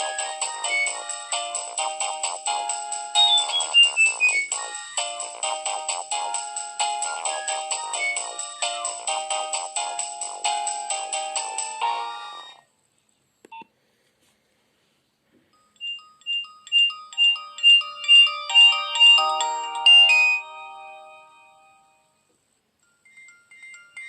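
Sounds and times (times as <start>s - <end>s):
phone ringtone melody: 0.0s - 12.6s, 15.6s - 22.1s, 22.8s - 24.0s.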